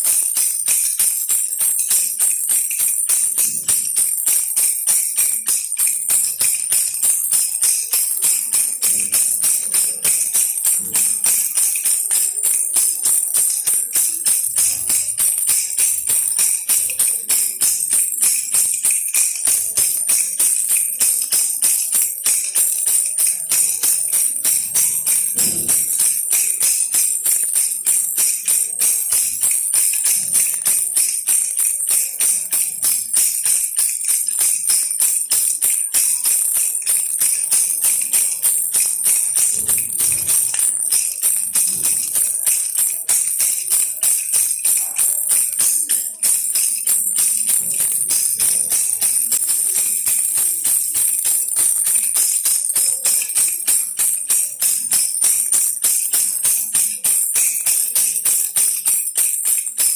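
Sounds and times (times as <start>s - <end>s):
baby rattle jingling: 0.0s - 59.9s.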